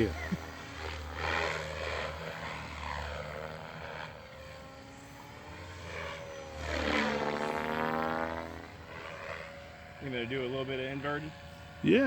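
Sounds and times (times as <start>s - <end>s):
rc helicopter rotor and motor whine: 0.0s - 12.0s.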